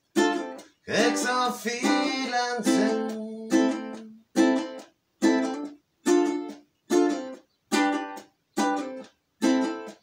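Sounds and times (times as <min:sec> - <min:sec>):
ukulele strummed in reggae rhythm: 0:00.0 - 0:10.0.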